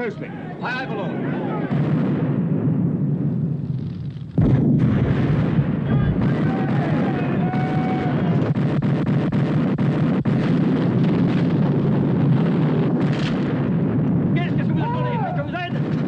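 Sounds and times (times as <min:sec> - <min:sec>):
cannon blast: 0:01.1 - 0:16.0
rumble of gunfire: 0:01.6 - 0:16.0
sharp gunfire cracks: 0:01.7 - 0:14.4, 0:15.6 - 0:16.0.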